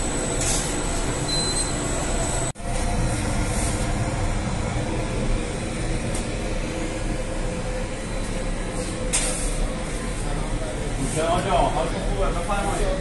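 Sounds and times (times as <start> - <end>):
bakery machinery drone: 0.0 - 13.0.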